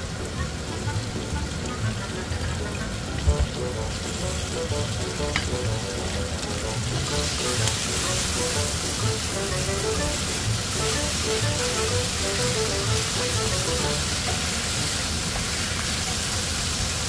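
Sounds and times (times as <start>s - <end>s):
soft background music: 0.0s - 15.1s
food sizzling in frying pan: 2.1s - 17.0s.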